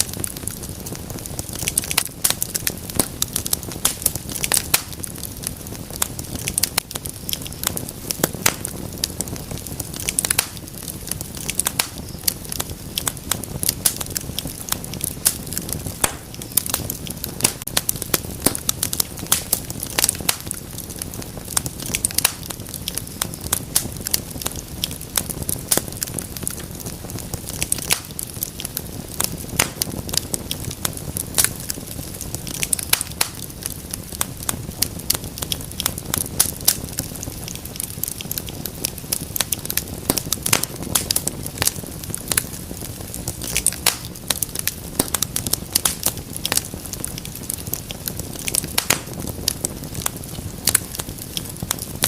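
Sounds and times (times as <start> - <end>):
low rumble of burning: 0.0 - 52.0
wood fire crackling and popping: 0.0 - 52.0.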